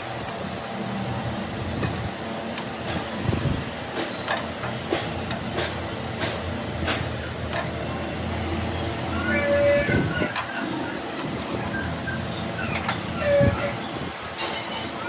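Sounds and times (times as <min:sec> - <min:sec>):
low workshop rumble: 0:00.0 - 0:15.0.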